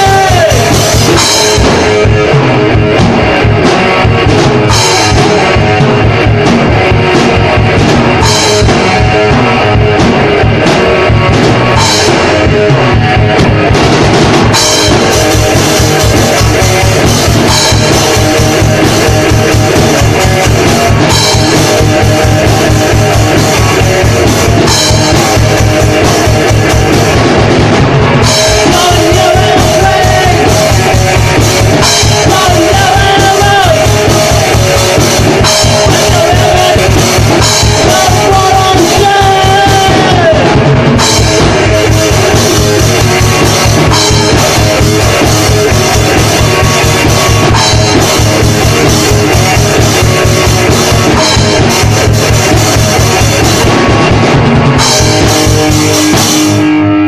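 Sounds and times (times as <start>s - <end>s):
distorted electric guitar: 0.0s - 57.0s
drum kit: 0.0s - 57.0s.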